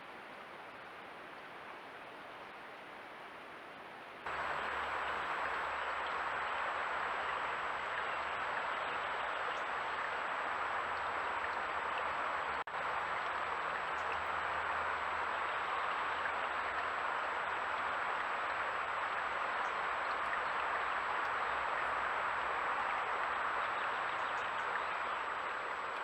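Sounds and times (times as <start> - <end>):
river water rushing: 4.3 - 26.0.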